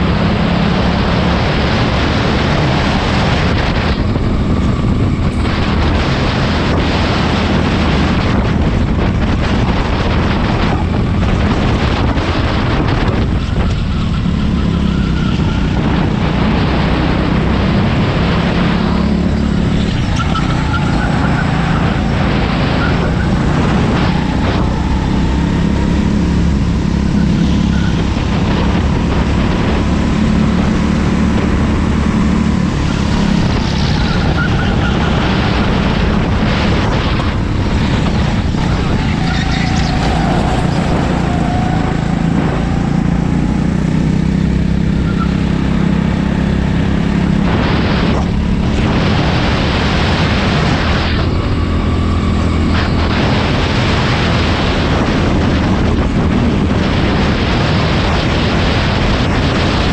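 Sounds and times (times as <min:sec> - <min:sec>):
go-kart engine running hard: 0:00.0 - 0:59.9
rush of noise: 0:00.0 - 0:59.9.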